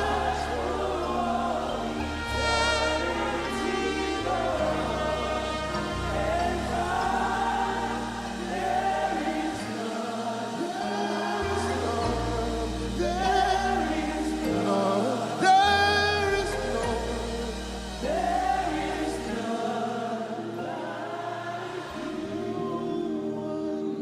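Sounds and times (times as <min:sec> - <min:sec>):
slow held bass notes: 0:00.0 - 0:24.0
voices singing together: 0:00.0 - 0:24.0.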